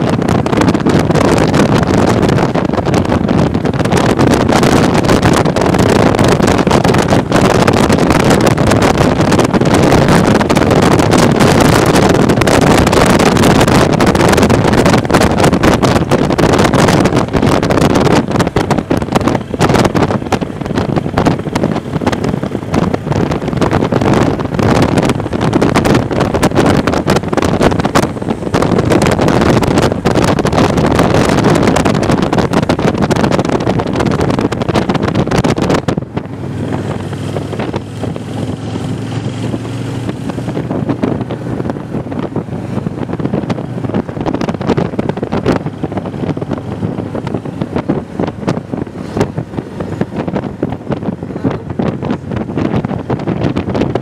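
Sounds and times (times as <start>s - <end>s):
motorcycle engine drone: 0.0s - 54.0s
wind buffeting microphone: 0.0s - 54.0s.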